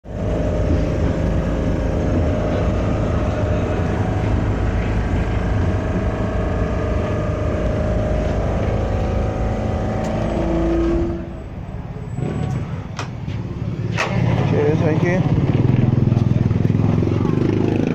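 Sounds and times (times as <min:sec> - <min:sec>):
tram rumbling on track: 0:00.0 - 0:17.9.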